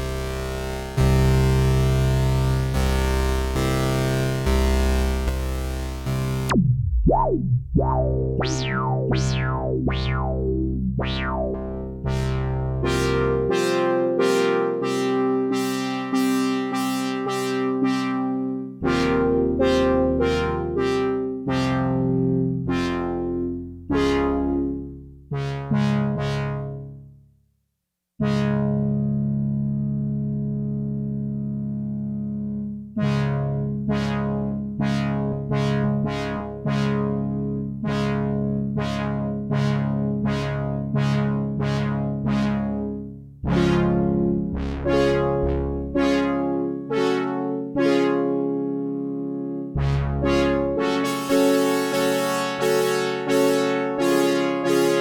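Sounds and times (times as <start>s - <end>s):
synthesizer chords over low bass: 0.0s - 27.1s, 28.2s - 55.0s.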